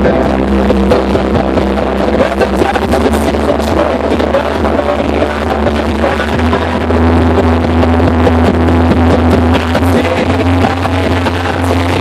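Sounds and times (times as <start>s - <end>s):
steady bass notes: 0.0s - 12.0s.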